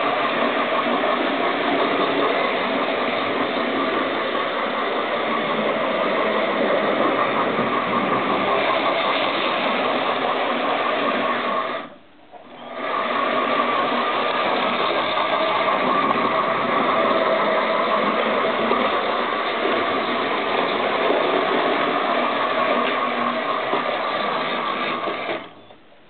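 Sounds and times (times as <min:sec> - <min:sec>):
model train motor whirring: 0:00.0 - 0:26.0.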